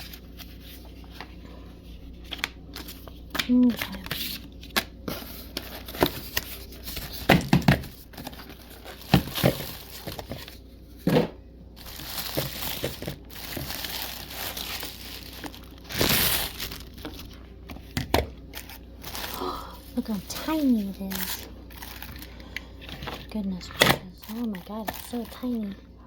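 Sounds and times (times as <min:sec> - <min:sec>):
packaging crinkling and rustling: 0:00.0 - 0:11.1, 0:11.8 - 0:25.8.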